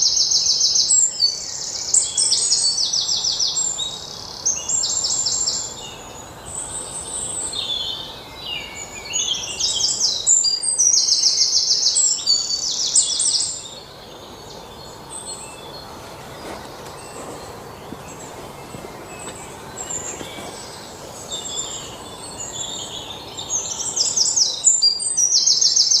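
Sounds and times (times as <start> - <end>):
small birds trilling: 0.0 - 26.0.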